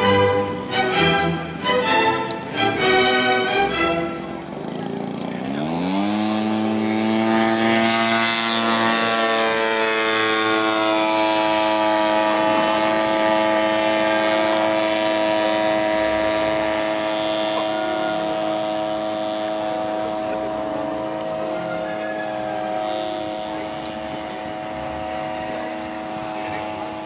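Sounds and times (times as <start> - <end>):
model plane engine and propeller: 0.0 - 27.0.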